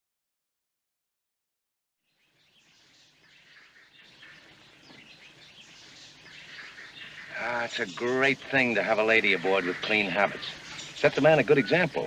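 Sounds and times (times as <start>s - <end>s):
birds chirping: 2.1s - 12.0s
low background hiss: 2.2s - 12.0s.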